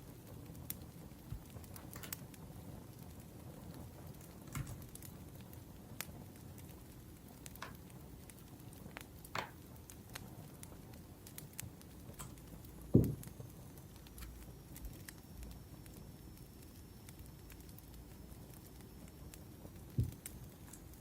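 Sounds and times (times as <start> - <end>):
steady low hiss: 0.0 - 21.0
wood fire crackling and popping: 0.0 - 21.0.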